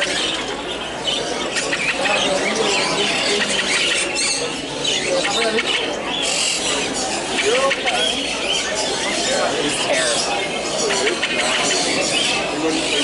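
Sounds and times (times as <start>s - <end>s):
birds squawking: 0.0s - 13.0s.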